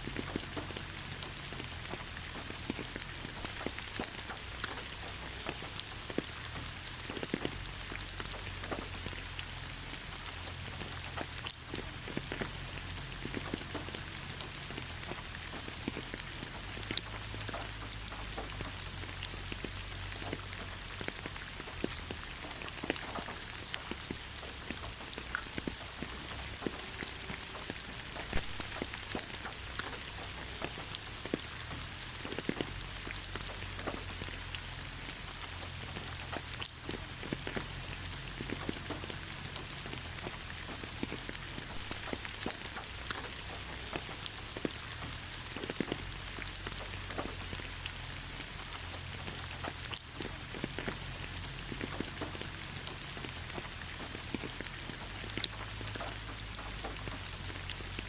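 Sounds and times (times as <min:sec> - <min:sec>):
raindrops ticking: 0:00.0 - 0:58.0
steady rainfall: 0:00.0 - 0:58.0.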